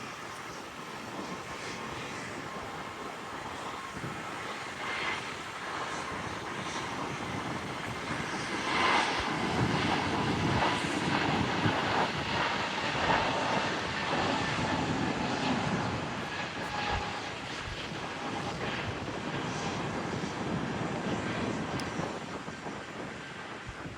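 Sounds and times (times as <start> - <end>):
airliner engines passing: 0.0 - 23.9
faint steady whine: 0.0 - 23.9.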